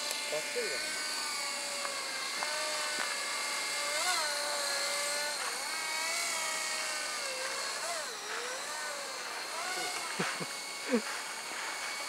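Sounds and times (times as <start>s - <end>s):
model helicopter whine: 0.0s - 12.0s.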